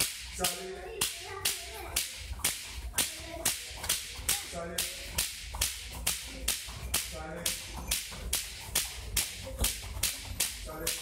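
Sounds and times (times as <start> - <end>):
sharp cracks in even beat: 0.0 - 11.0.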